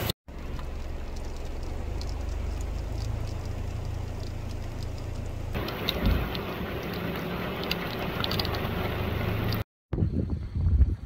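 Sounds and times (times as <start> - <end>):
low steady rumble: 0.0 - 11.0
heavy rain falling: 0.3 - 9.6
rain splashing on floodwater: 0.3 - 9.6.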